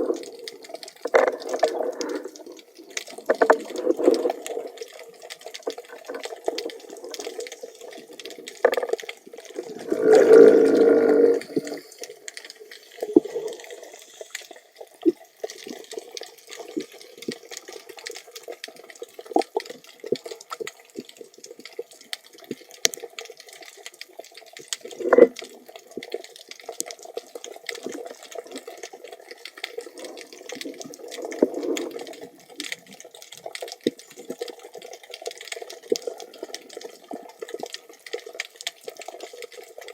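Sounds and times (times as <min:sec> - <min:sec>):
underwater crackles and clicks: 0:00.0 - 0:39.9
underwater rushing: 0:00.0 - 0:39.9.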